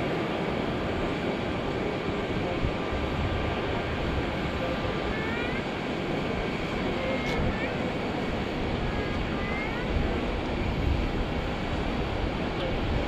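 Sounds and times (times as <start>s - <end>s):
jet airliner engines taxiing: 0.0s - 13.0s.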